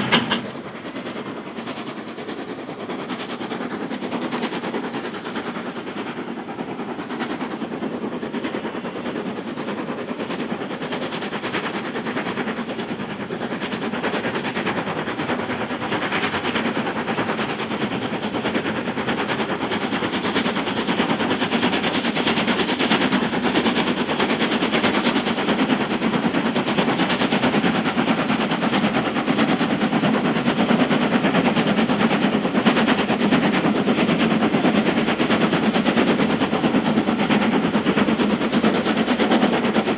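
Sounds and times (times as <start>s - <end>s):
steam locomotive exhaust beating: 0.0s - 39.9s.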